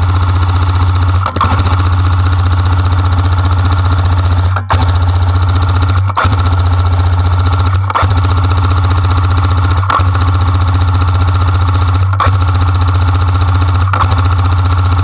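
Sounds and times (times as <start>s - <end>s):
toy machine gun firing bursts: 0.0s - 15.0s.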